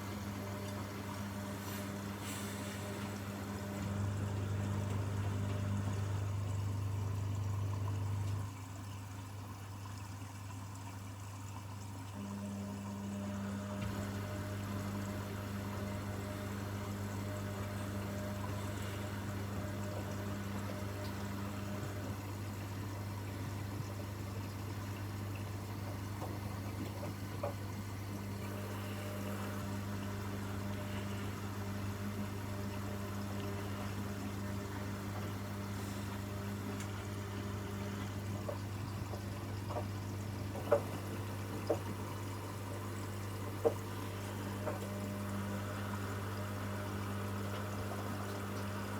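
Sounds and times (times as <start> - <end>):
low pump hum: 0.0 - 48.9
washing machine running: 0.0 - 48.9
water flowing: 0.0 - 48.9.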